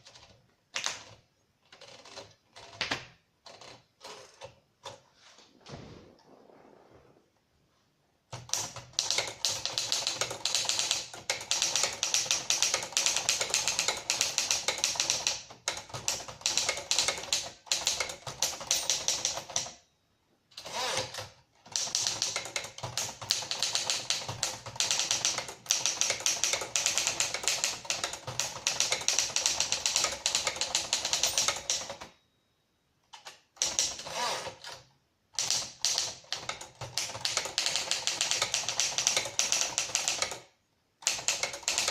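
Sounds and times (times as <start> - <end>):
manual typewriter typing: 0.0 - 5.0, 8.3 - 19.8, 20.5 - 32.2, 33.1 - 41.9.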